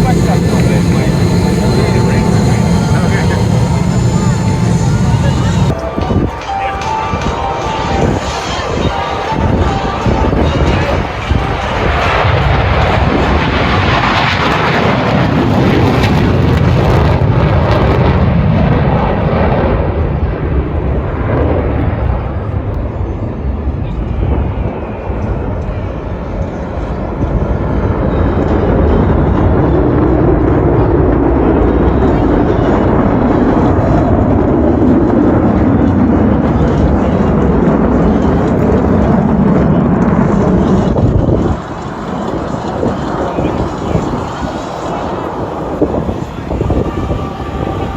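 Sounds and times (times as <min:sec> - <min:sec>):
fighter jet engines roaring past: 0:00.0 - 0:47.9.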